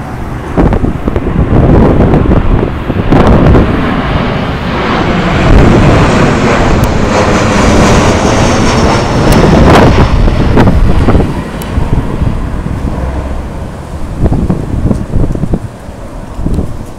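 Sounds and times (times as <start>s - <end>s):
high engine whine falling: 0.0s - 16.9s
jet engines running: 0.0s - 16.9s
wind buffeting microphone: 0.0s - 16.9s.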